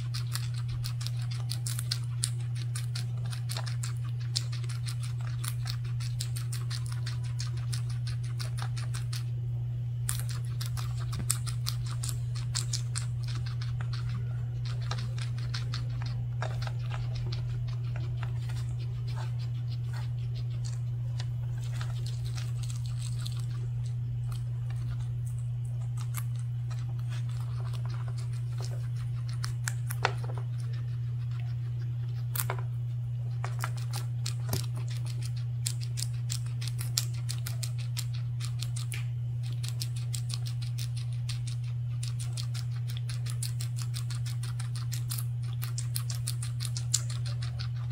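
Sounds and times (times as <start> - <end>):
guinea pigs chewing stems: 0.0 - 47.9
low hum: 0.0 - 47.9.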